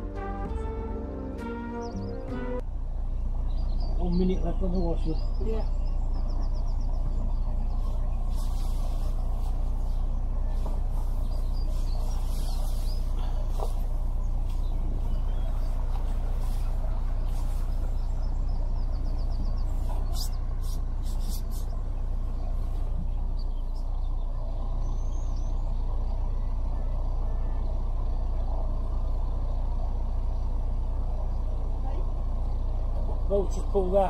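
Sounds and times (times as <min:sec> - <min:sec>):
boat engine running steadily: 0:05.1 - 0:34.0.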